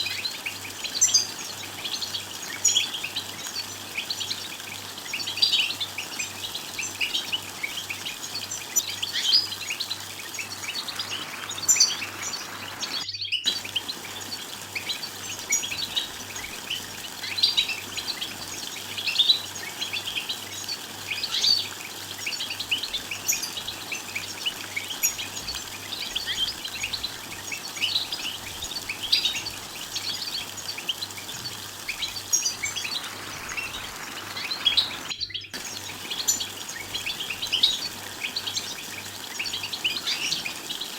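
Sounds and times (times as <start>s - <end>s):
goldfinch chirps and trills: 0.0s - 40.9s.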